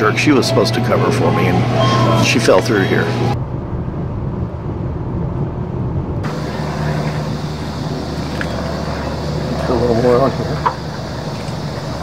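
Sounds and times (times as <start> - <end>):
muffled engine and road noise: 0.0 - 12.0
outdoor noise with low drone: 0.0 - 12.0.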